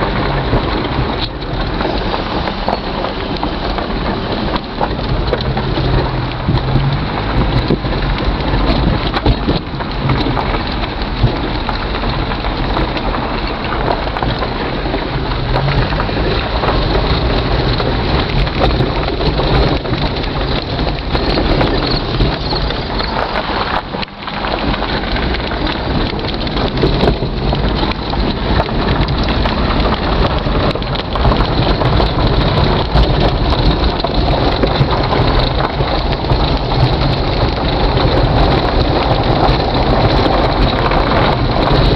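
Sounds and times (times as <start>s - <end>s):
road and wind noise inside vehicle: 0.0s - 41.9s.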